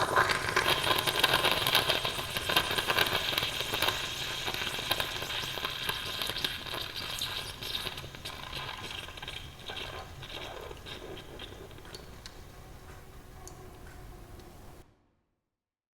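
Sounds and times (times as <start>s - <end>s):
small crackles and clicks: 0.0s - 14.6s
coffee machine hissing: 0.0s - 14.8s.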